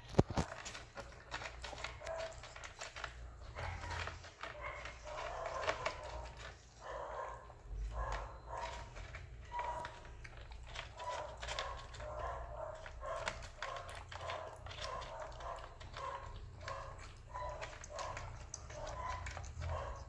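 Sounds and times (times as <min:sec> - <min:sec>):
cats crunching dry kibble: 0:00.0 - 0:20.0.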